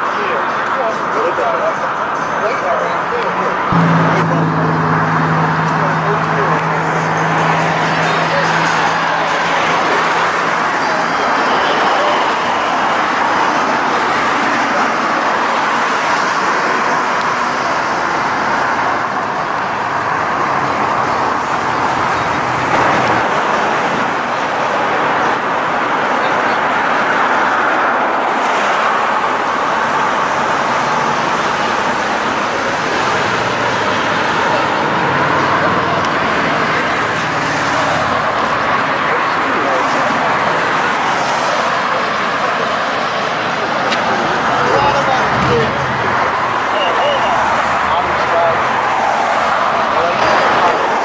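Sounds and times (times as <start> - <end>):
motor vehicle noise: 0.0 - 51.0.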